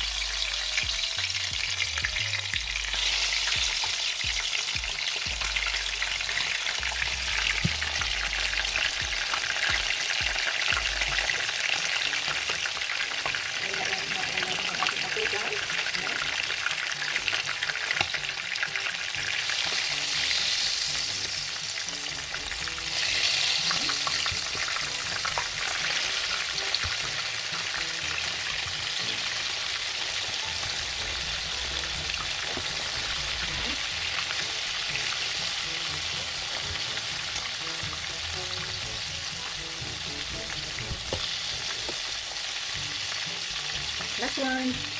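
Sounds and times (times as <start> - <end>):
chicken deep-frying in oil: 0.0 - 44.9.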